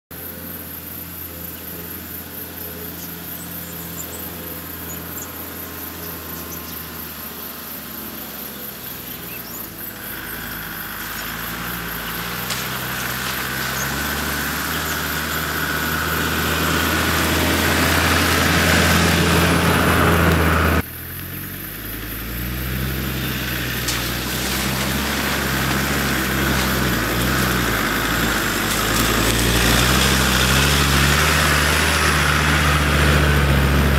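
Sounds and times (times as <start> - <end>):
off-road vehicle engine at low revs: 0.0 - 33.9.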